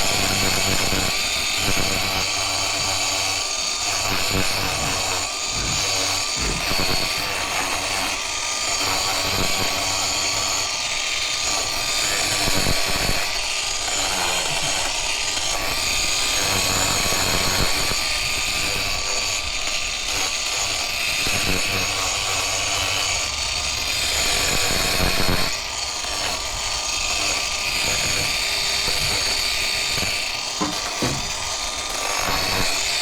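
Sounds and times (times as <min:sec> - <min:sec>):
angle grinder grinding hoof: 0:00.0 - 0:33.0.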